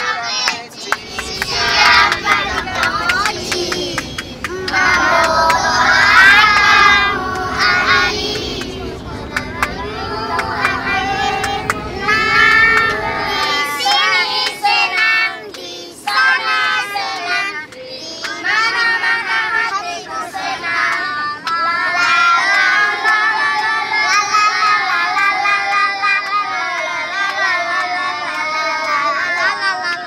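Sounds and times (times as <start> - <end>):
children singing together: 0.0 - 30.0.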